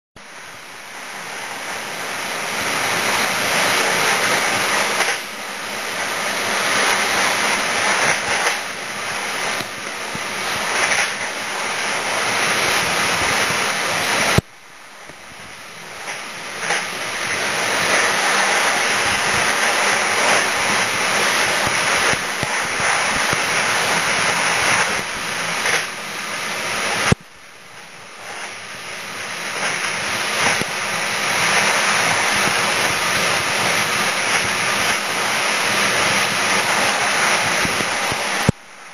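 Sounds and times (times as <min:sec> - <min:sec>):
train rushing on rails: 0:00.2 - 0:38.9.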